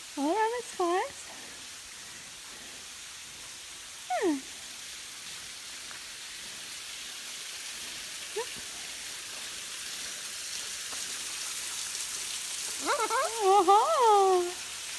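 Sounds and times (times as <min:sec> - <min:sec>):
waterfall hiss: 0:00.0 - 0:14.9.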